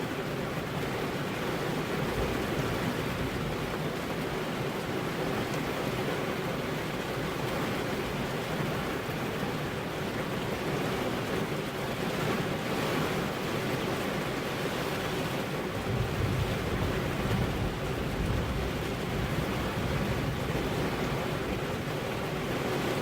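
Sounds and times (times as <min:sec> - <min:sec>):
rain on car windows: 0:00.1 - 0:23.0.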